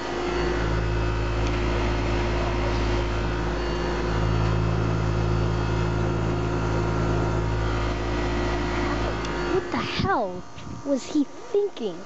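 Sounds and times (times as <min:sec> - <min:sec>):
compressor hum: 0:00.0 - 0:12.0
condenser fan whirring: 0:00.0 - 0:12.0.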